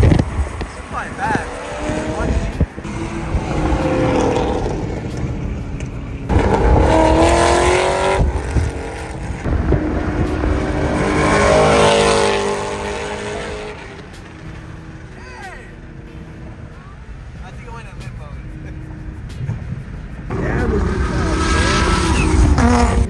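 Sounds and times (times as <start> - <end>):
car engines revving hard: 0.0 - 23.0
road and wind noise: 0.0 - 23.0.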